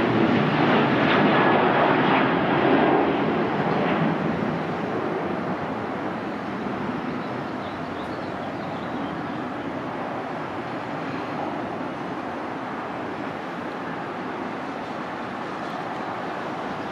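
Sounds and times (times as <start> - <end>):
jet engine rushing roar: 0.0 - 16.9.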